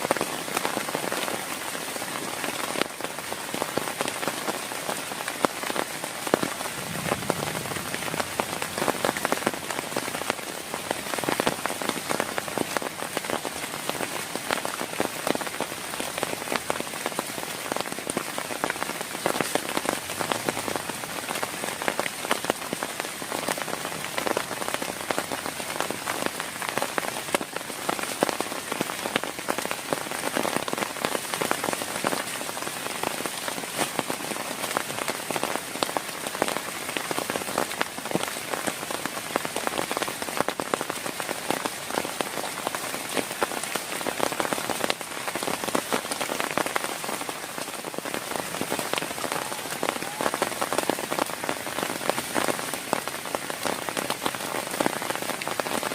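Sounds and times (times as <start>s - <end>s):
heavy rain pattering: 0.0s - 55.9s.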